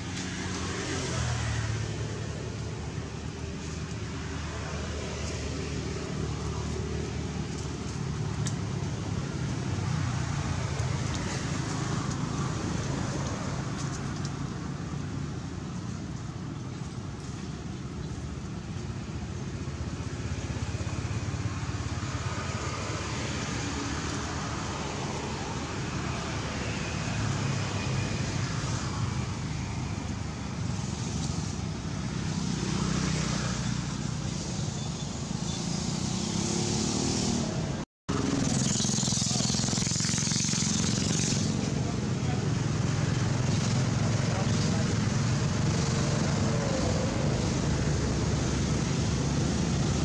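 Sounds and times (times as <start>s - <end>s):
traffic rumble: 0.0s - 50.0s.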